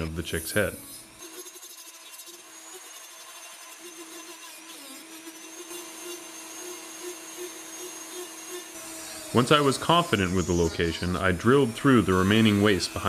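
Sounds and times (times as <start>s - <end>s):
rotary tool grinding wood: 0.0s - 13.0s.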